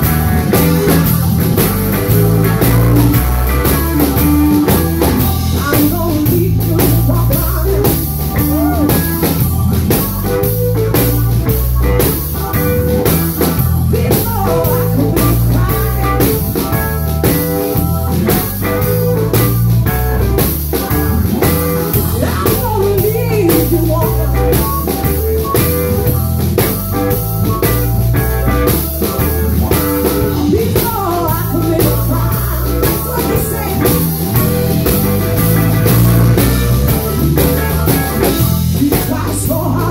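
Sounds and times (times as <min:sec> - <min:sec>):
electric guitar lines: 0:00.0 - 0:39.8
drum kit with cymbal hits: 0:00.0 - 0:39.9
electric bass: 0:00.0 - 0:39.9.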